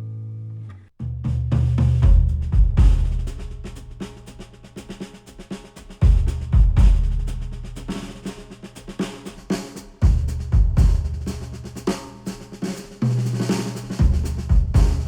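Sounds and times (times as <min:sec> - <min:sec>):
instrumental music with drums and bass: 0:01.0 - 0:15.0.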